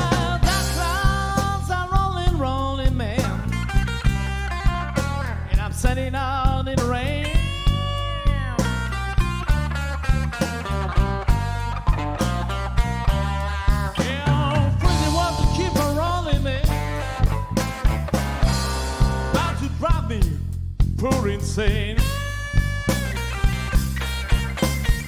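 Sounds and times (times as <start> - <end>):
lead electric guitar: 0.0 - 20.2, 22.0 - 25.0
bass line: 0.0 - 25.0
drum kit beat: 0.0 - 25.0.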